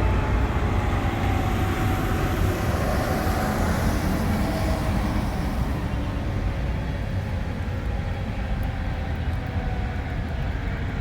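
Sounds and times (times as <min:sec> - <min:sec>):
faint warning siren: 0:00.0 - 0:10.7.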